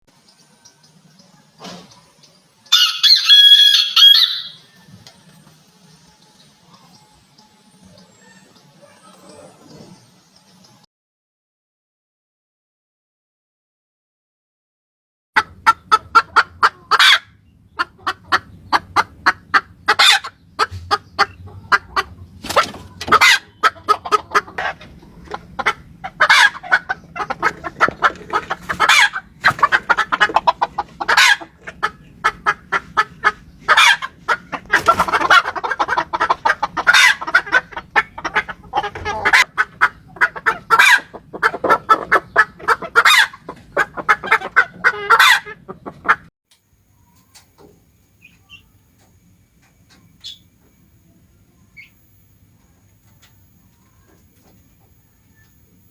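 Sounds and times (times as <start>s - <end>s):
jungle fowl clucking and calling: 0.4s - 10.7s, 15.4s - 46.3s, 47.0s - 55.9s.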